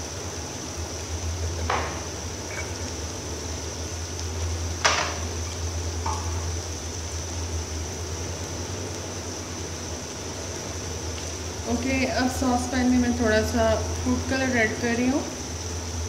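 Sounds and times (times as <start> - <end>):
onions frying in oil: 0.0 - 16.0.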